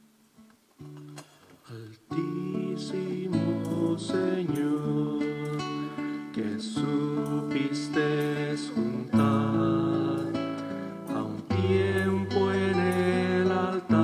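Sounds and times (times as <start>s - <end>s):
acoustic guitar slow chords: 0.0s - 14.0s.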